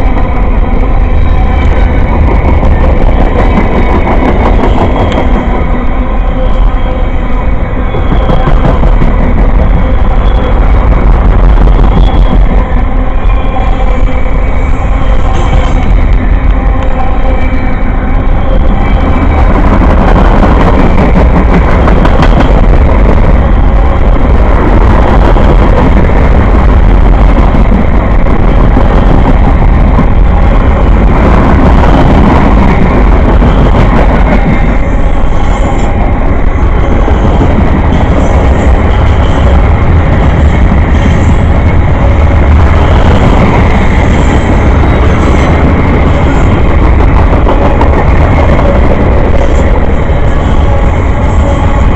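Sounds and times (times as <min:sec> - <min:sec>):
train passing rumble: 0:00.0 - 0:51.9.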